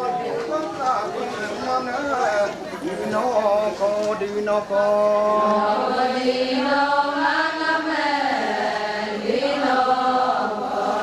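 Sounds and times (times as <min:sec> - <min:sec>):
voices chanting: 0:00.0 - 0:11.0.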